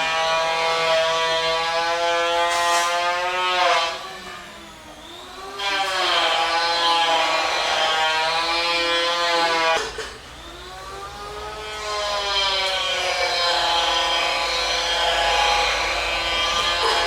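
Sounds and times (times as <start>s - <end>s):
hair dryer whining hum: 0.0s - 17.0s.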